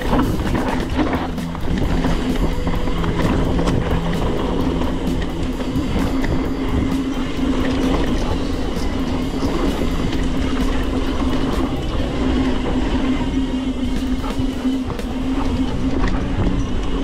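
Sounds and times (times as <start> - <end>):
bike rattling and clattering: 0.0 - 17.0
bike tyres rumbling on dirt: 0.0 - 17.0.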